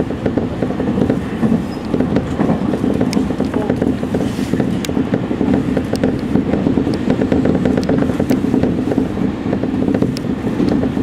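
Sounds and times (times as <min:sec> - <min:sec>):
train wheels rumbling on rail: 0:00.0 - 0:11.0
wheels clicking over rail joints: 0:00.0 - 0:11.0.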